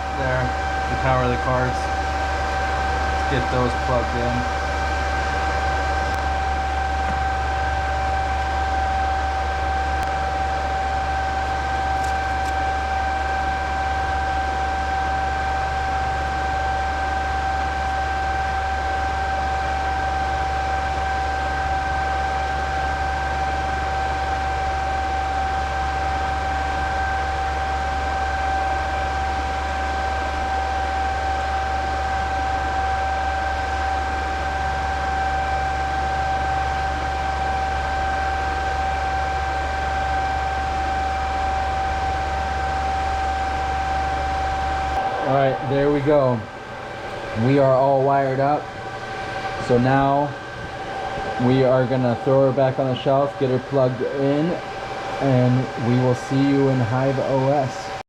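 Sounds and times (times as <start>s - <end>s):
cooling fans whirring: 0.0s - 58.0s
high-pitched whine: 0.0s - 58.0s
low hum: 0.0s - 58.0s.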